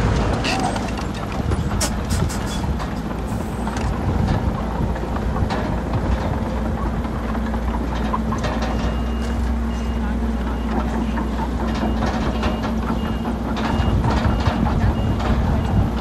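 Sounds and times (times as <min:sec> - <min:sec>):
metal clanks and knocks: 0:00.0 - 0:09.9, 0:10.8 - 0:16.0
diesel engine running: 0:00.0 - 0:16.0.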